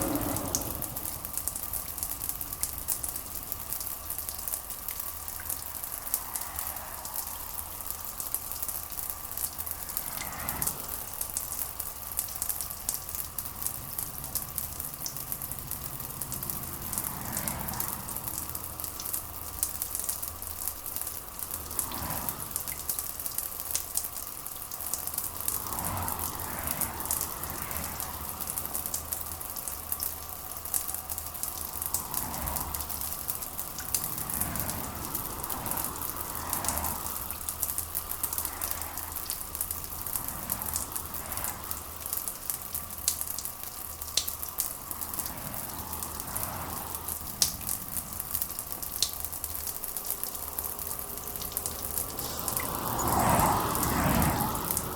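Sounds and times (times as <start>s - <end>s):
rain pattering on a surface: 0.0s - 54.9s.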